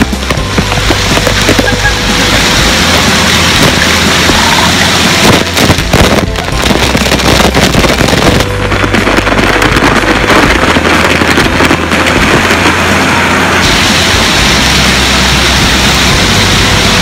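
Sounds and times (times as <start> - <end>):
water cannon spraying: 0.0 - 17.0
water rushing and splashing: 0.0 - 17.0.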